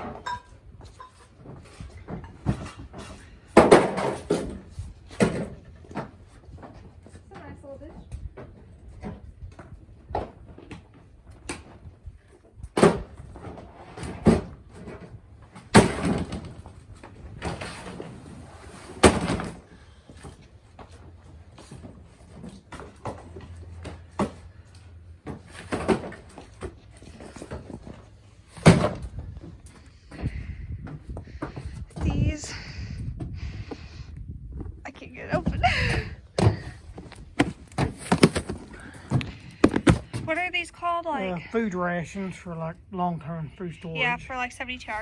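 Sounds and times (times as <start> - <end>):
boxes knocking and thudding: 0.0 - 12.0, 12.7 - 32.6, 35.3 - 40.4.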